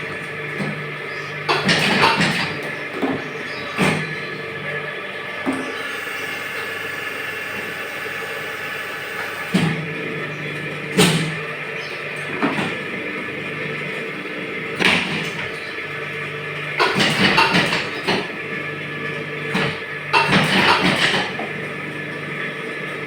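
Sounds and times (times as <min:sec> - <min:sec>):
moulding machine humming: 0:00.0 - 0:23.0.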